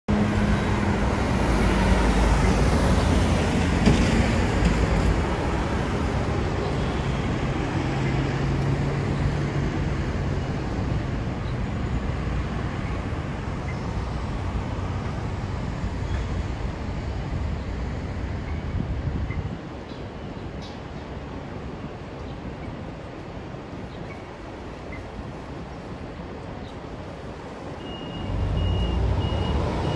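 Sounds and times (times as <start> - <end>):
trucks and cars driving past: 0.1 - 29.9.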